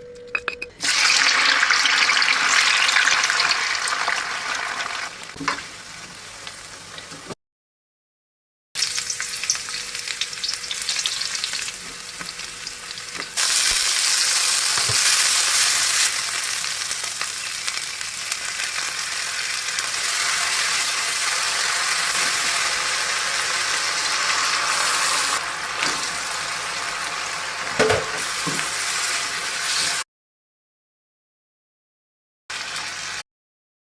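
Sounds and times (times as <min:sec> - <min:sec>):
food sizzling in hot oil: 0:00.8 - 0:07.4, 0:08.8 - 0:30.0.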